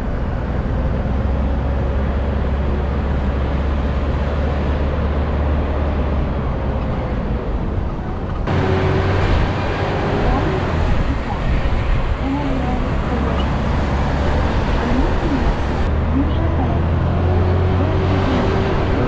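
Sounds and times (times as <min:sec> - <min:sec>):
bus engine and road rumble: 0:00.0 - 0:19.0
surrounding traffic: 0:00.0 - 0:19.0.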